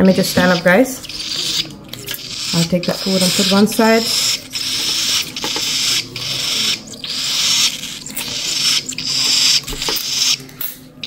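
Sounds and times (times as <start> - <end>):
chicks raspy hissing begging calls: 0.0 - 10.4.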